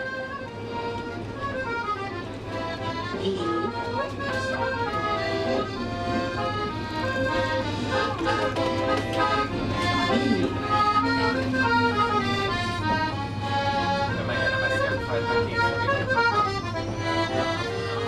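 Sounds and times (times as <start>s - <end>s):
accordion playing melody: 0.0s - 18.0s.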